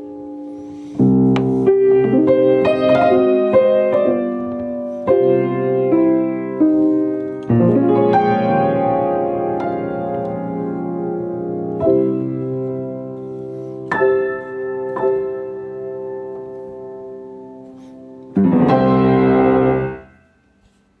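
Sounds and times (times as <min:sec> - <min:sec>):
grand piano chords: 0:00.0 - 0:20.5.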